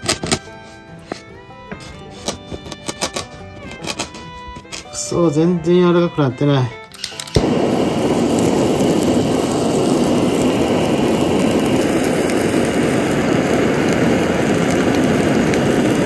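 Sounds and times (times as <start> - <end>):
gas torch hissing: 0.0 - 5.1, 6.9 - 16.0.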